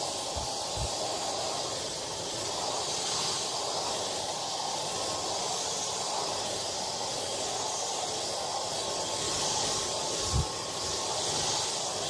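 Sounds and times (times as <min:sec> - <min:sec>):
hair dryer blowing air: 0:00.0 - 0:12.0.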